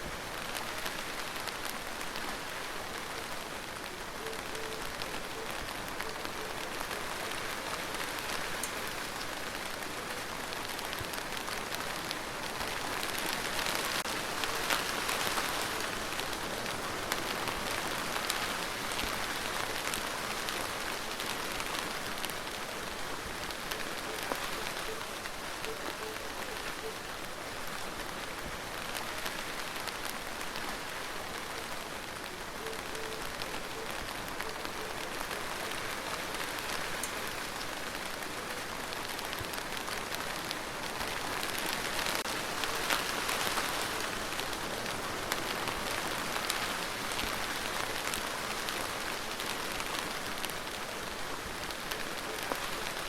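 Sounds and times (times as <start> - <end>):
rain pattering on a surface: 0.0 - 53.0.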